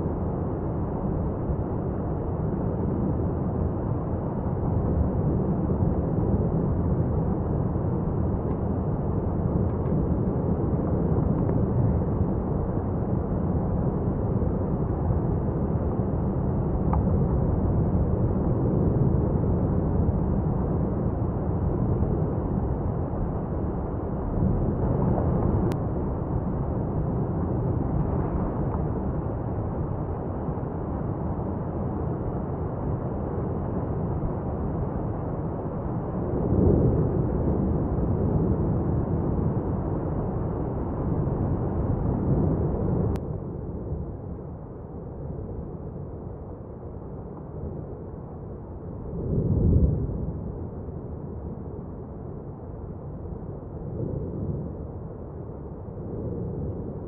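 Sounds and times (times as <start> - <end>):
volcano eruption low rumble: 0.0 - 57.0.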